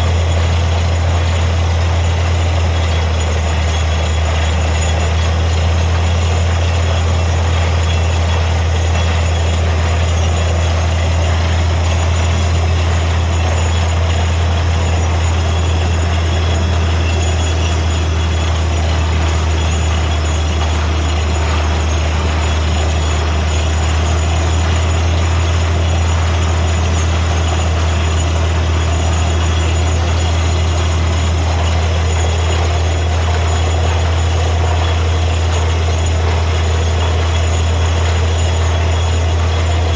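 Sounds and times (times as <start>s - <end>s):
drilling rig engine hum: 0.0s - 39.9s
machine noise: 0.0s - 39.9s.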